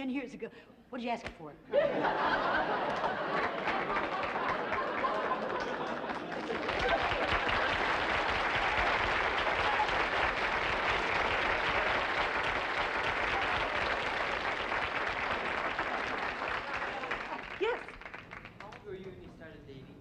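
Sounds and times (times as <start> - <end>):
audience applauding: 2.0 - 19.2.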